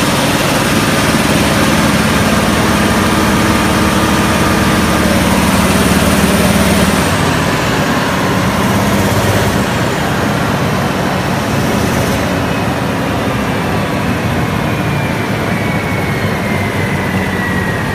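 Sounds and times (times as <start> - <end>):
diesel engine running loudly: 0.0 - 17.9
high whine falling in pitch: 0.0 - 17.9.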